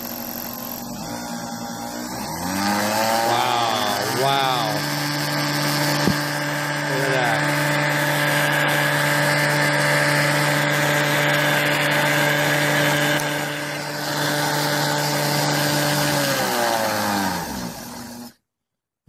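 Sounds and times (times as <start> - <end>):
electric motor whining: 0.0 - 18.4.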